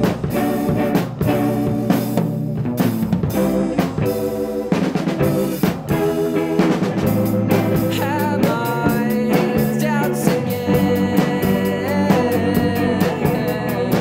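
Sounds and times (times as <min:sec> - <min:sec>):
indie rock song with band: 0:00.0 - 0:14.0.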